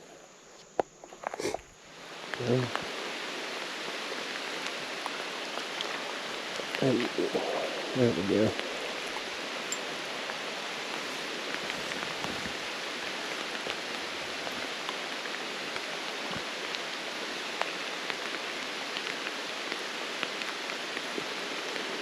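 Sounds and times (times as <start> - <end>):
steady rain hiss: 0.0 - 22.0
faint raindrop ticks: 2.2 - 2.9, 4.3 - 22.0.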